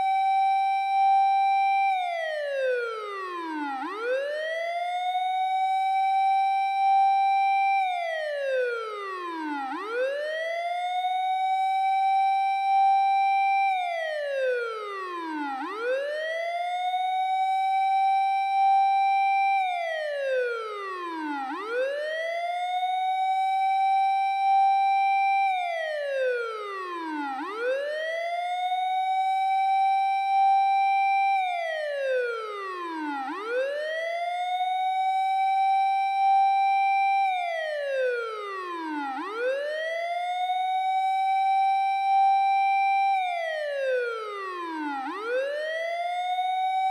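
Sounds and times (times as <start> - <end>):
fire engine siren wailing: 0.0 - 46.9.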